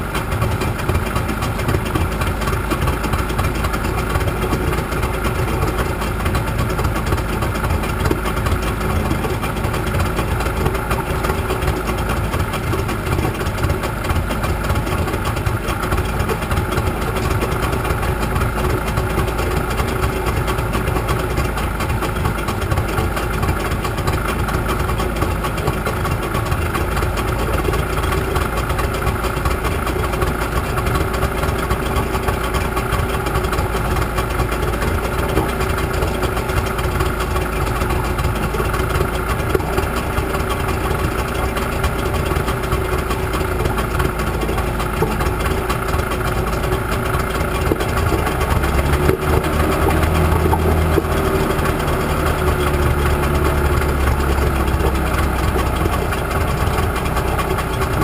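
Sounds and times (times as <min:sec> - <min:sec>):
outboard motor idling: 0:00.0 - 0:58.0.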